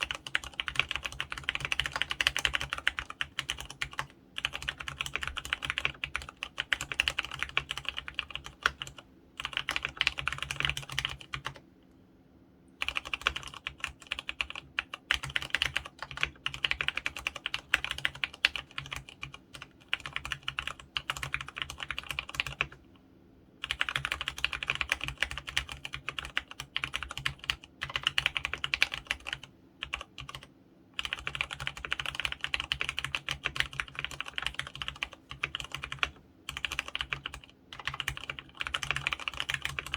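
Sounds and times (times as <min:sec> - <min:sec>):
mechanical keyboard typing: 0:00.0 - 0:11.6, 0:12.8 - 0:22.8, 0:23.6 - 0:39.9.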